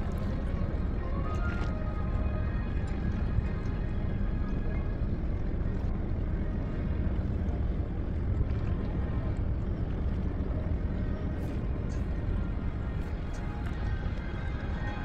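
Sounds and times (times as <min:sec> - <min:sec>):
low rumble of boat under way: 0:00.0 - 0:15.0.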